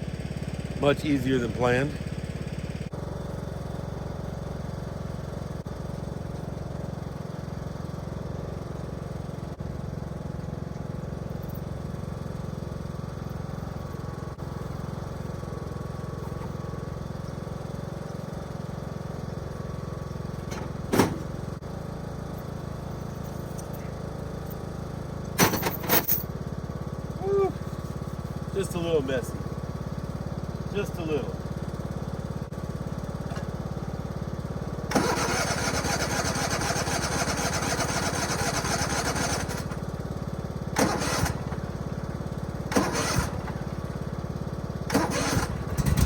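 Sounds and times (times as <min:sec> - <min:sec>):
riding lawn mower engine: 0:00.0 - 0:46.0.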